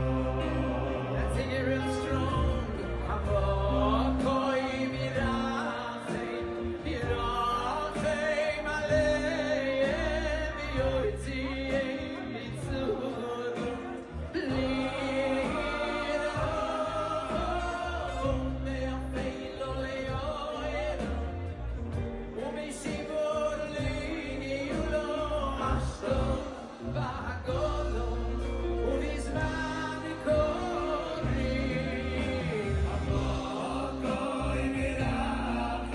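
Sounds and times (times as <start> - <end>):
amplified band playing: 0.0 - 35.9
man singing into a microphone: 0.0 - 35.9.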